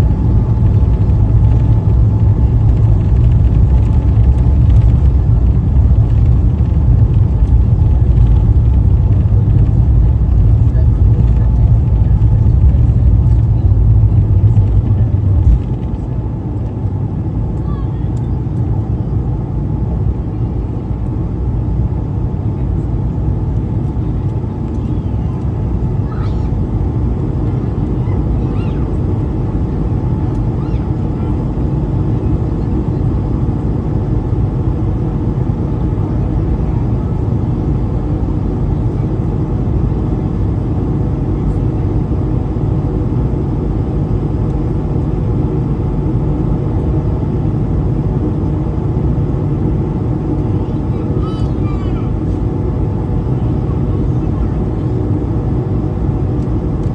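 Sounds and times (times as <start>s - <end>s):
aircraft cabin rumble: 0.0s - 56.9s.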